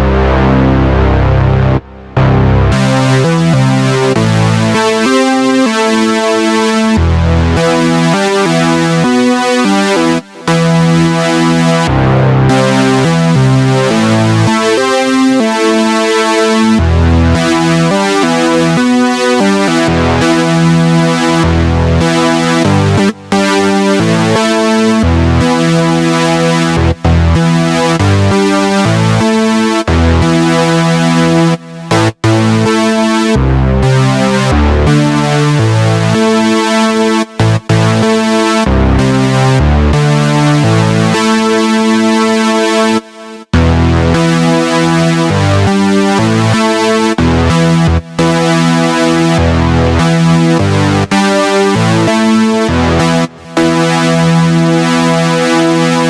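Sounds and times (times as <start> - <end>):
synthesizer chords: 0.0 - 56.0.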